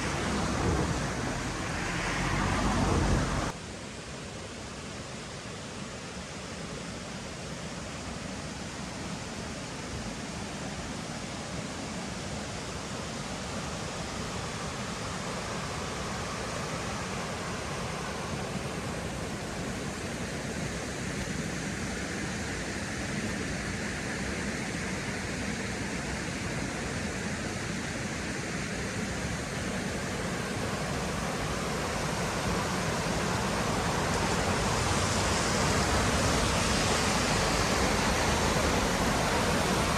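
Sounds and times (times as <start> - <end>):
mountain stream rushing: 0.0 - 3.6, 9.3 - 39.9.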